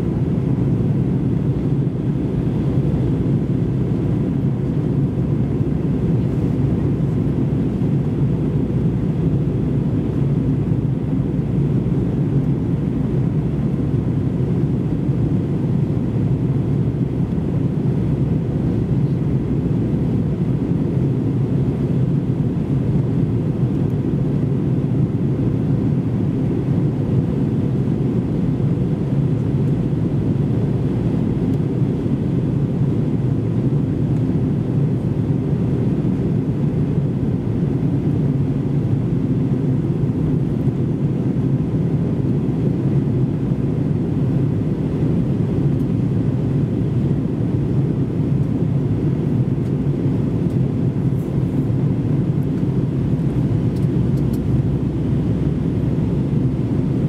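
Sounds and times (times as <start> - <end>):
airliner cabin rumble: 0.0 - 57.0
engine and airflow noise: 0.0 - 57.0.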